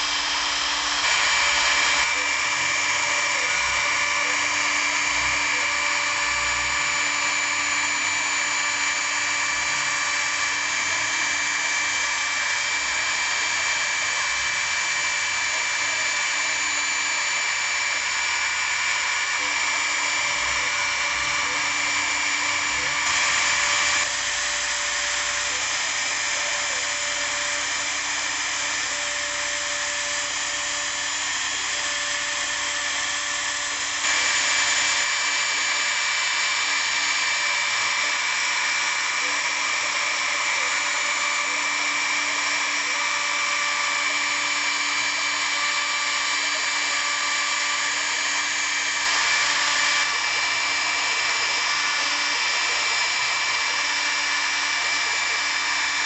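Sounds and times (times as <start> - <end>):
router spindle whining while milling wood: 0.0 - 56.0.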